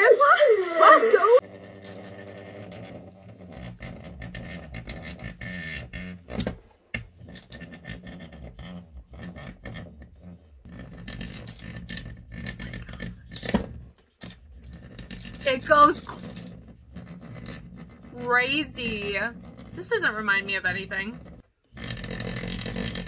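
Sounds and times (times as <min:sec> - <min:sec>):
scraping and rubbing: 0:01.3 - 0:23.0
vibrating device humming: 0:01.4 - 0:23.0.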